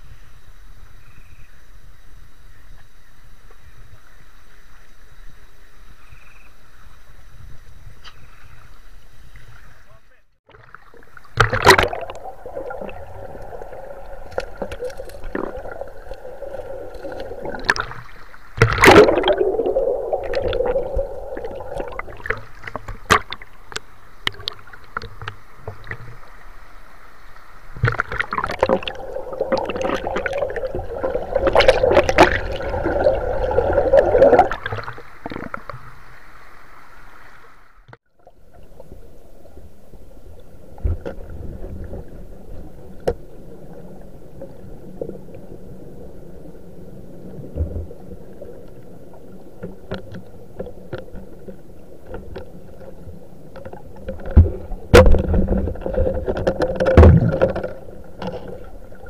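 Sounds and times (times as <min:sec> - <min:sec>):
water splashing: 0:09.3 - 0:59.0
river water sloshing: 0:10.5 - 0:46.7, 0:47.3 - 0:59.0.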